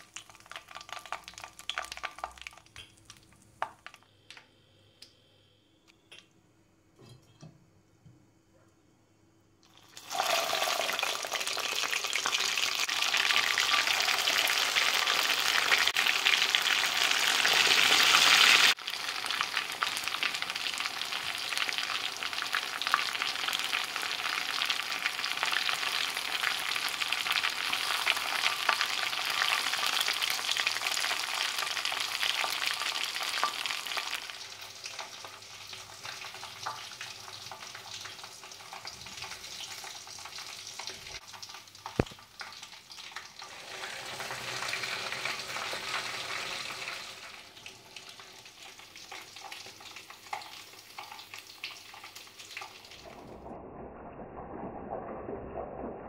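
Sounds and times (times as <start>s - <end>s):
fish sizzling in hot oil: 0.0s - 4.0s, 9.6s - 53.1s.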